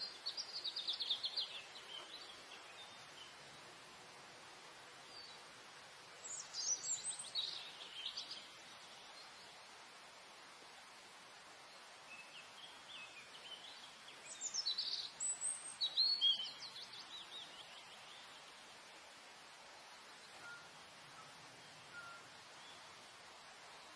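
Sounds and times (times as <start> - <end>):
songbird singing: 0.0 - 10.2, 11.0 - 23.9
background hiss: 0.0 - 23.9.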